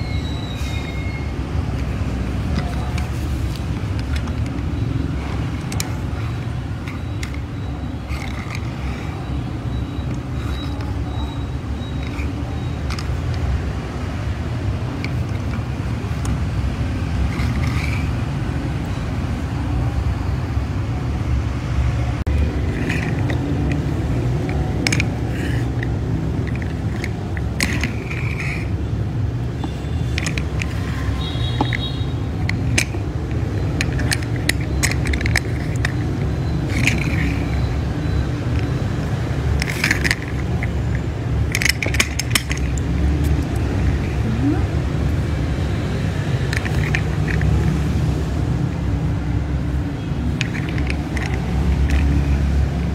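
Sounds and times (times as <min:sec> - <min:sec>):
plastic toy pieces clicking: 0:01.6 - 0:18.3, 0:22.3 - 0:28.8, 0:29.4 - 0:44.2, 0:46.1 - 0:48.2, 0:50.3 - 0:52.9.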